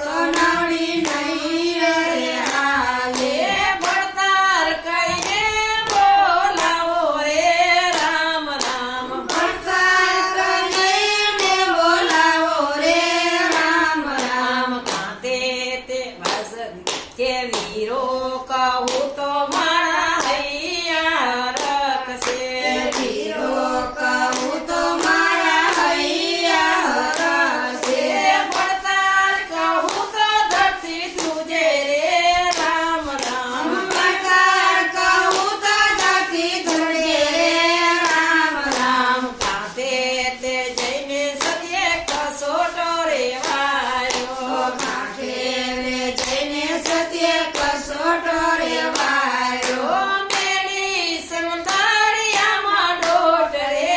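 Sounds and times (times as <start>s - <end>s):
hand claps in steady beat: 0.0s - 53.9s
women singing together: 0.0s - 53.9s.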